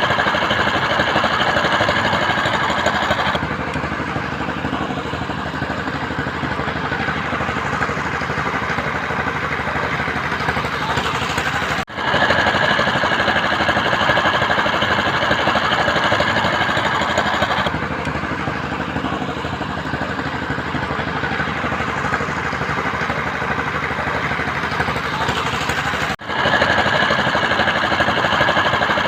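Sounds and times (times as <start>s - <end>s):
construction machine engine running: 0.0s - 29.0s.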